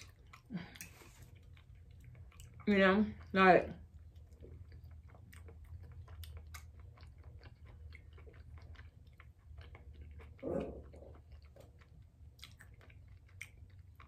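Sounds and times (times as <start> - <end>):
faint low hum: 0.0 - 14.0
person chewing bread: 0.0 - 14.0.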